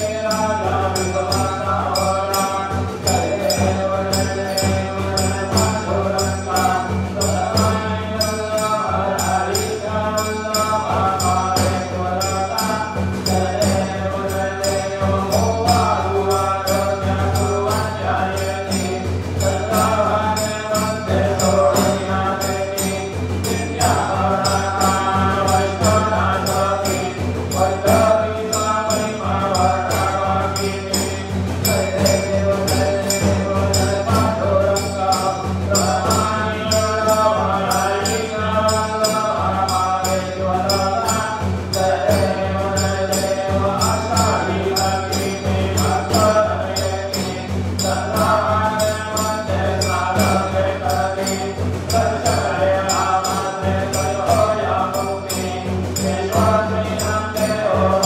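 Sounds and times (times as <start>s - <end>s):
chant-like singing: 0.0s - 58.0s
ringing bells: 0.0s - 58.0s.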